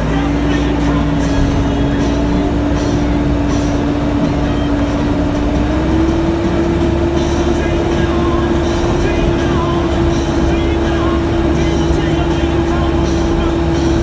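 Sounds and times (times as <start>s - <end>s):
diesel engine running under load: 0.0s - 14.0s
engine whine: 0.0s - 14.0s.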